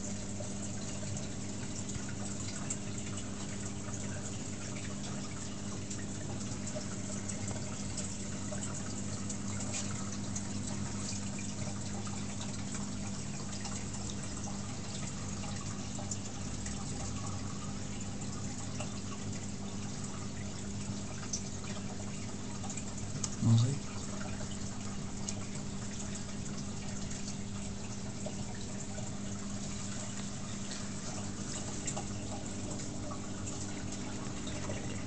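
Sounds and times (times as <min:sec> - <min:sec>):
water trickling and dripping: 0:00.0 - 0:35.0.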